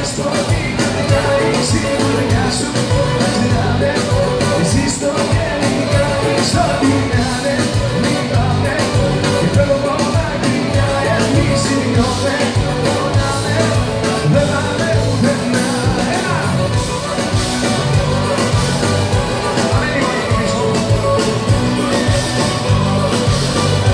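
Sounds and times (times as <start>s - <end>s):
live pop band through pa: 0.0s - 23.9s.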